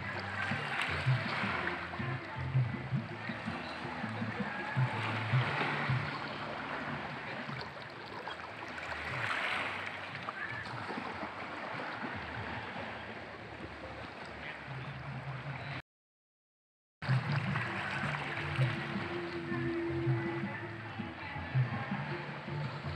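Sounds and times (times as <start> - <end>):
small waves lapping against rocks: 0.0 - 15.8, 17.0 - 22.9.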